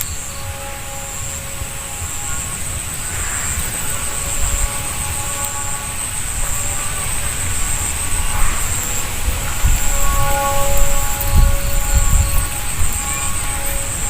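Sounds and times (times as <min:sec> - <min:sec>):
faint distant humming tones: 0:00.0 - 0:14.0
wind buffeting microphone: 0:00.0 - 0:14.0.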